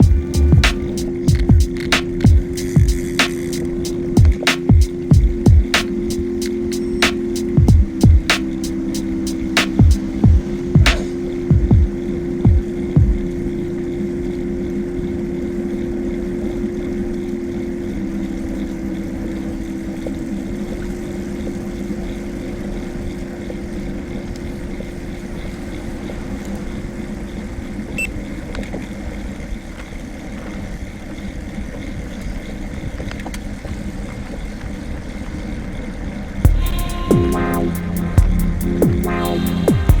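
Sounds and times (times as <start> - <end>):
engine drone: 0.0 - 29.8, 36.4 - 40.0.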